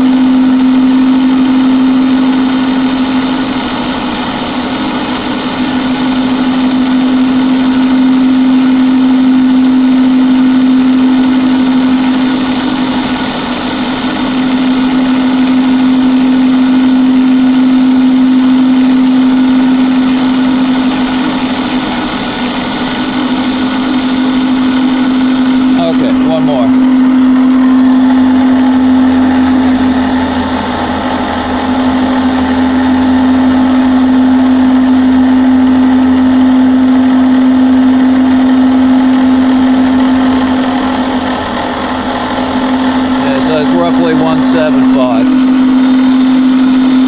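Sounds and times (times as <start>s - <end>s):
mill spindle humming: 0.0s - 47.0s.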